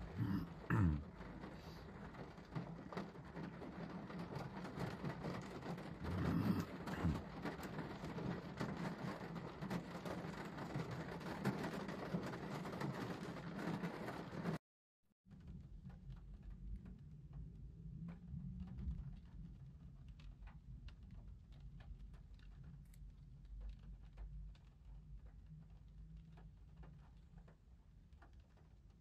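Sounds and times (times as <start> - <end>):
rain on car windshield: 0.0 - 14.6, 15.3 - 29.0.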